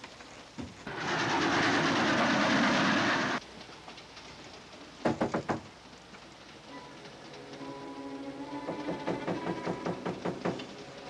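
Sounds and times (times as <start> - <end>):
steam train clattering: 0.0 - 11.0.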